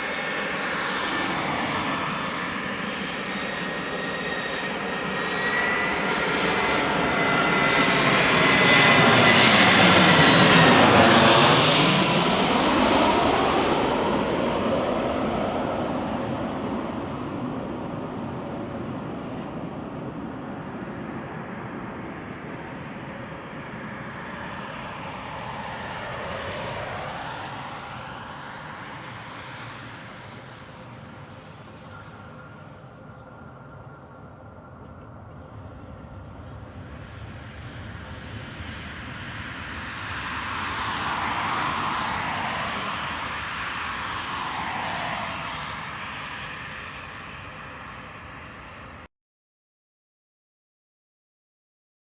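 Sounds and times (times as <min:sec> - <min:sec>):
jet engine rumble: 0:00.0 - 0:49.1.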